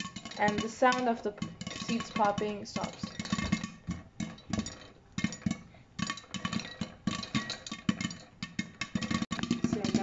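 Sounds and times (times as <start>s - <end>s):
popcorn popping in a pan: 0.0s - 10.0s.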